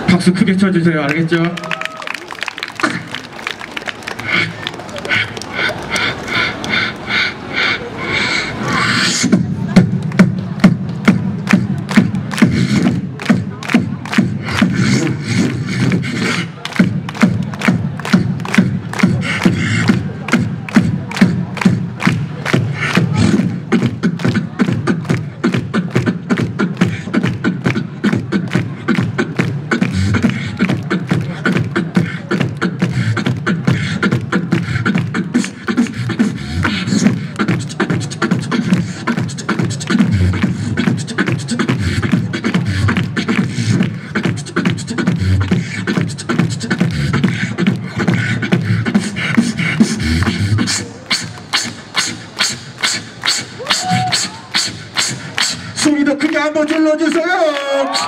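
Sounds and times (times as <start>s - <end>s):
amplified beatboxing: 0.0s - 1.4s, 2.8s - 3.2s, 4.2s - 58.0s.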